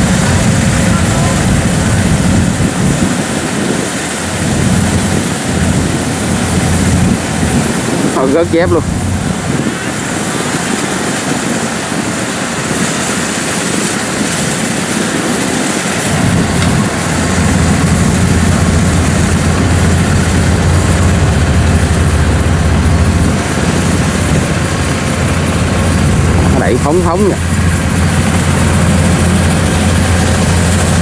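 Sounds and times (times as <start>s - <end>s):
combine harvester engine hum: 0.0s - 31.0s.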